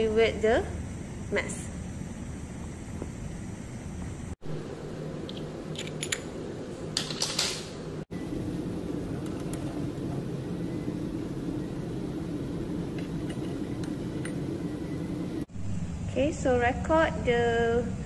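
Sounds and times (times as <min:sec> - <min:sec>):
air handling hum: 0:00.0 - 0:15.5.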